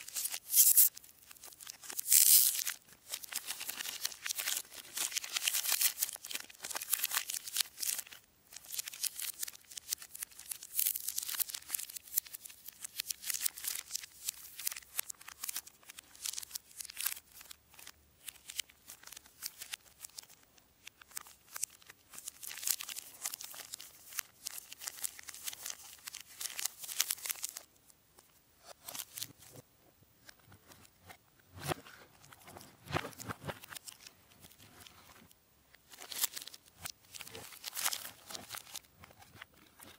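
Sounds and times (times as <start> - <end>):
plastic wrapper crinkling and tearing: 0.0 - 27.7, 28.6 - 29.6, 31.6 - 39.9.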